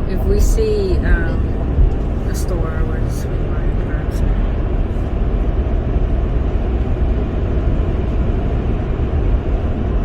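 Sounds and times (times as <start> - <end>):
tyre and road noise in car: 0.0 - 10.0.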